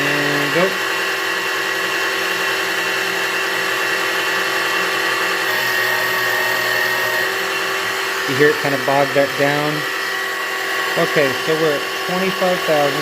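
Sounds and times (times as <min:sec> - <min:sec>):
lathe motor whining: 0:00.0 - 0:13.0.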